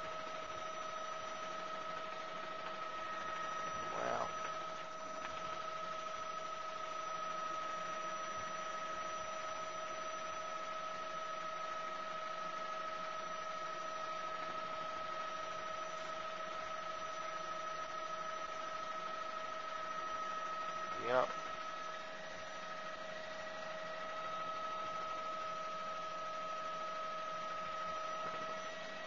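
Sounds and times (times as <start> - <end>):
high two-tone whine: 0.0 - 29.0.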